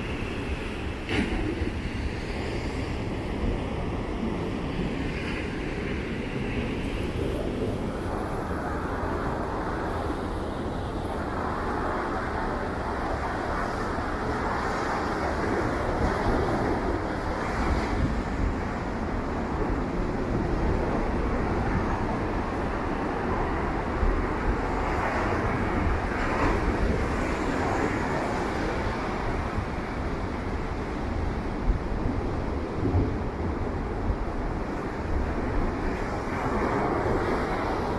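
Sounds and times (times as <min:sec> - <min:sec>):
heavy surf breaking: 0:00.0 - 0:37.9
wind rumbling on microphone: 0:00.0 - 0:37.9.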